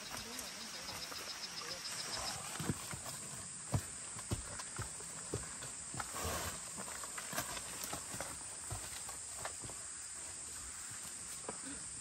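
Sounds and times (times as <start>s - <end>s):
footsteps on rocky trail: 0.0s - 11.6s.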